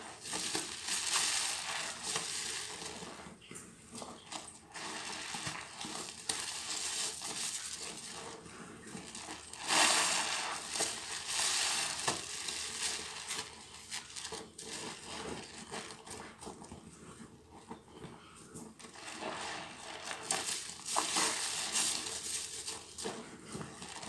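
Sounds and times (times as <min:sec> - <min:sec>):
hands squeezing soapy sponge: 0:00.0 - 0:24.0.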